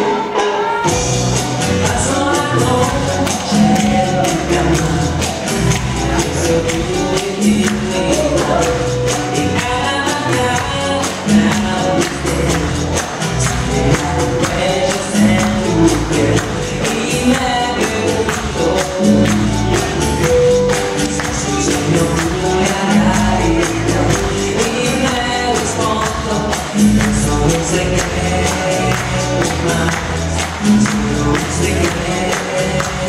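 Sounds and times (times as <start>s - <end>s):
cha-cha-cha dance music: 0.0s - 33.0s
person singing: 0.0s - 33.0s.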